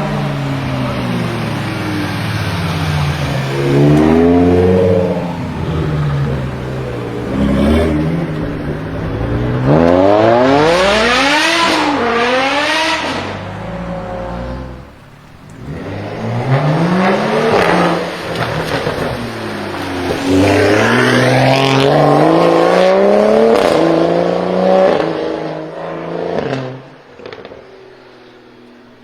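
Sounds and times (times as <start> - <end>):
car engine accelerating hard: 0.0 - 29.0.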